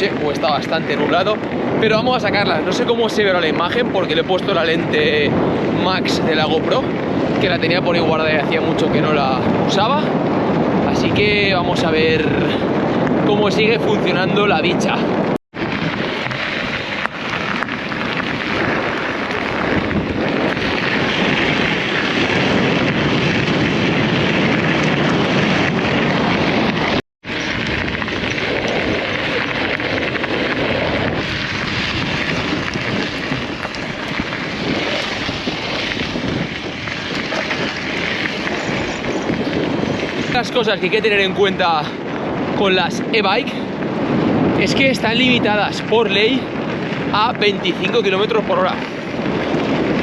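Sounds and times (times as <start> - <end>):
bike tyres rolling on dirt: 0.0 - 50.0
wind rushing on camera: 0.0 - 50.0.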